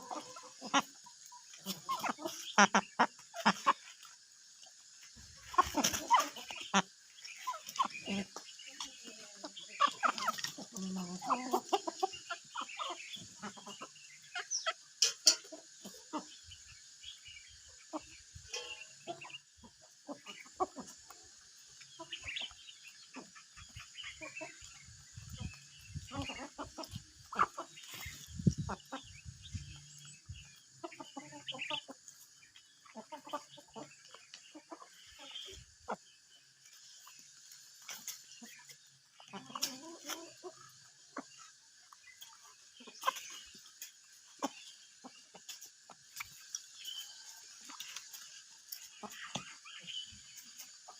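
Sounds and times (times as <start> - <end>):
chickens clucking: 0.0 - 50.9.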